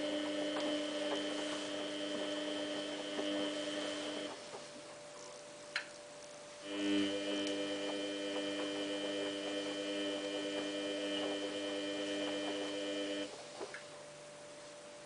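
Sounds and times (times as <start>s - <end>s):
washing machine electrical hum: 0.0s - 15.0s.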